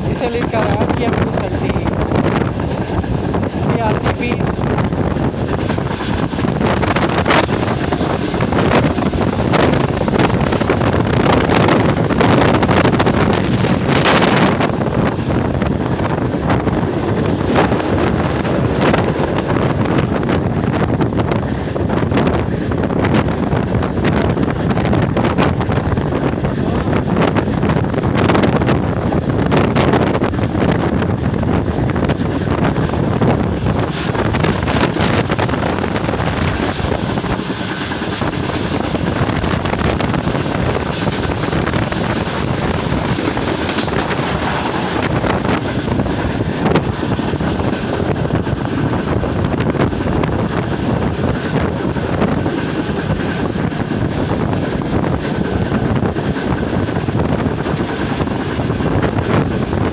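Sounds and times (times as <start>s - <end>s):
train running noise: 0.0s - 59.9s
wind buffeting microphone: 0.0s - 59.9s.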